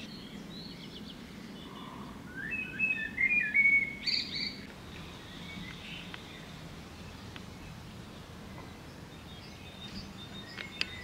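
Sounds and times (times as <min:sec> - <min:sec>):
low background noise: 0:00.0 - 0:11.0
songbird singing: 0:00.0 - 0:11.0.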